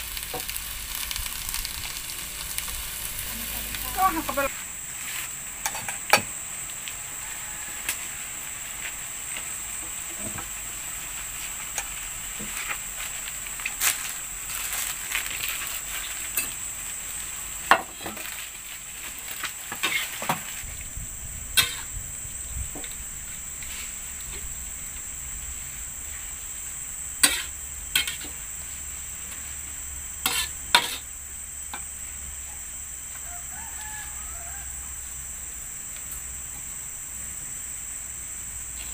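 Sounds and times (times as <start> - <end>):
food sizzling in a frying pan: 0.0 - 38.9
high-pitched insect buzz: 0.0 - 38.9.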